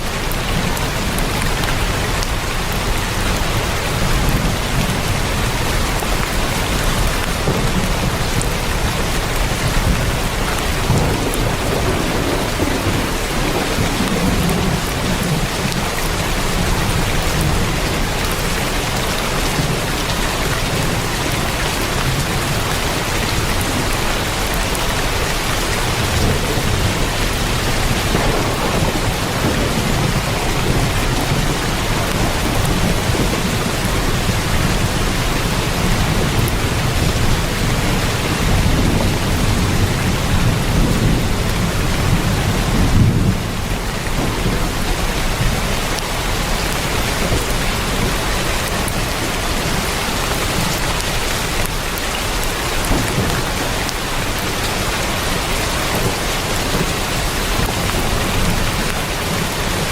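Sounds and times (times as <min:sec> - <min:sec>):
heavy rain on a tin roof: 0:00.0 - 0:59.9
thunder rolling: 0:03.5 - 0:54.7.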